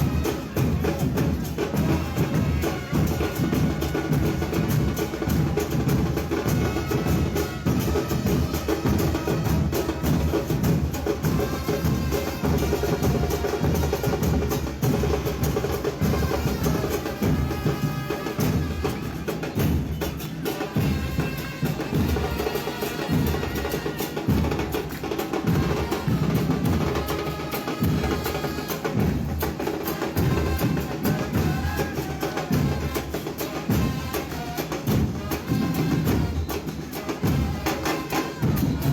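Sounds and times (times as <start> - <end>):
brass band playing: 0.0 - 38.9
drums and percussion: 0.0 - 38.9.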